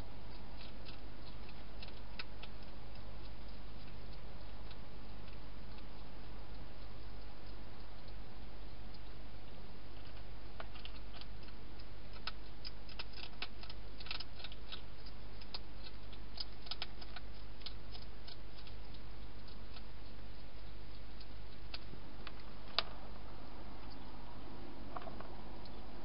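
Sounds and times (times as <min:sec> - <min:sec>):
hedgehog crunching food: 0:00.0 - 0:26.0
low hum: 0:00.0 - 0:26.0.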